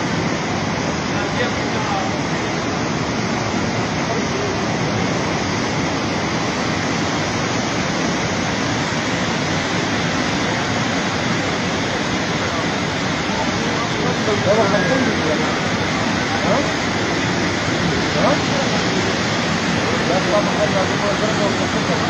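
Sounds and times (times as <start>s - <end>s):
rushing flood torrent: 0.0s - 22.0s.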